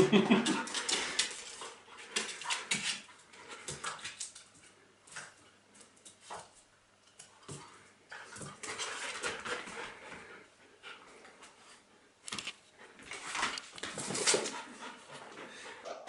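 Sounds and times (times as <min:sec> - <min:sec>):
dogs playing roughly: 0:00.0 - 0:06.4, 0:07.2 - 0:11.9, 0:12.8 - 0:16.0.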